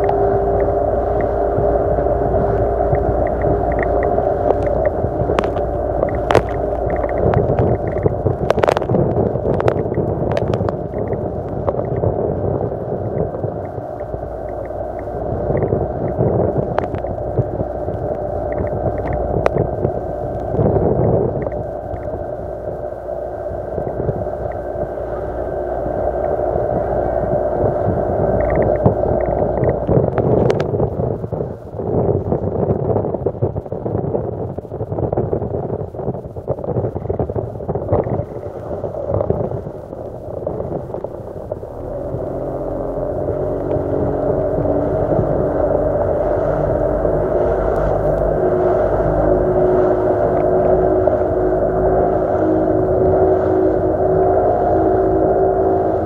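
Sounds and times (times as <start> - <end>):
outboard motor droning: 0.0 - 56.0.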